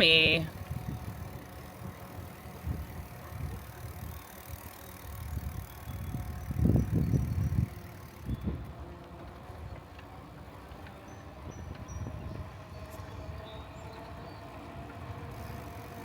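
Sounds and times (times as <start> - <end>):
bicycle tyre noise on pavement: 0.0 - 16.0
wind rumbling on microphone: 0.0 - 16.0.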